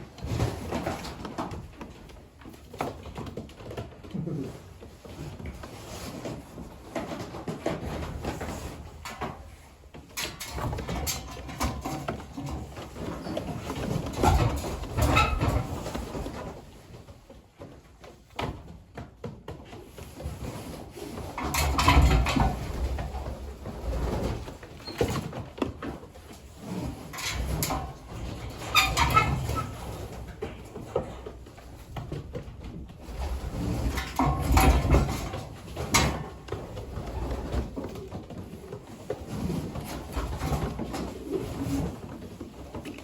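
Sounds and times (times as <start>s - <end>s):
knocks and rustling: 0.0s - 43.0s.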